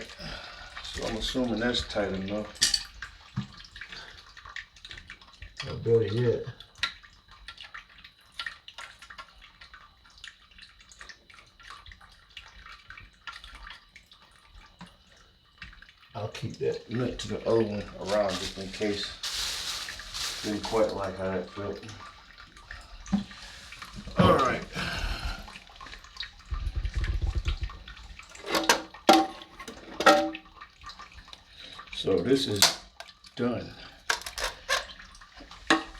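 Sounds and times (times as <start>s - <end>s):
light clicks and taps in toilet tank: 0.0s - 18.4s, 20.9s - 35.9s
water trickling and dripping: 0.0s - 35.9s.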